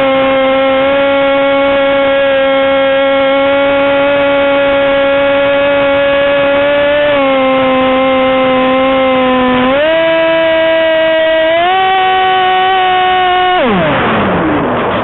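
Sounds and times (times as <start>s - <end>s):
model aircraft engine whine: 0.0s - 15.0s.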